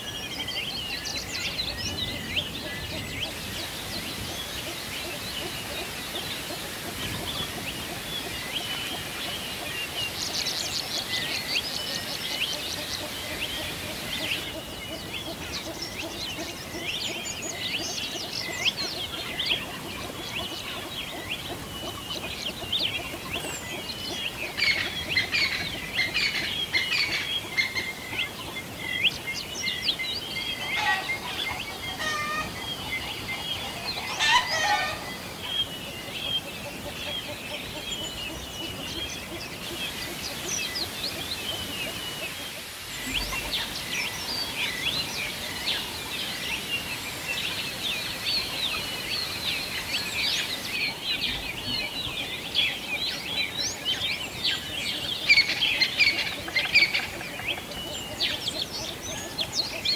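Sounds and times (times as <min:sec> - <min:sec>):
songbirds chirping: 0:00.0 - 0:59.9
faint hiss: 0:01.0 - 0:59.8.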